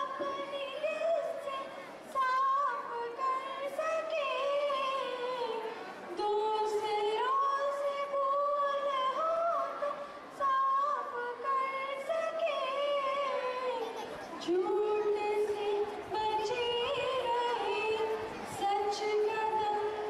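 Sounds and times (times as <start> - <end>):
girls singing together: 0.0 - 20.0.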